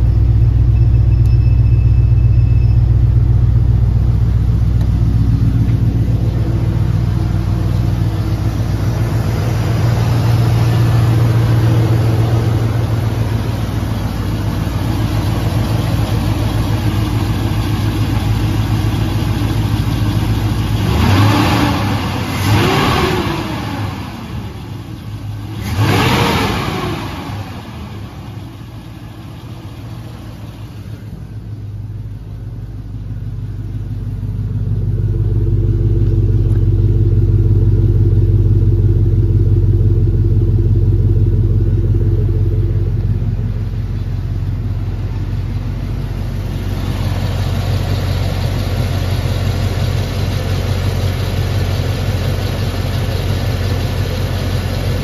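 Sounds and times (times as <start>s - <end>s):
car engine revving and idling: 0.0s - 55.0s.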